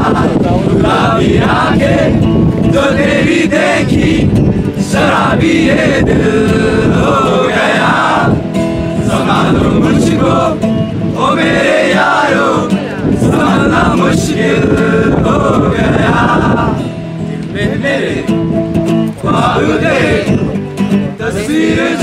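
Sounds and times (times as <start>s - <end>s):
group singing: 0.0s - 20.5s, 21.1s - 22.0s
acoustic guitar: 0.0s - 22.0s.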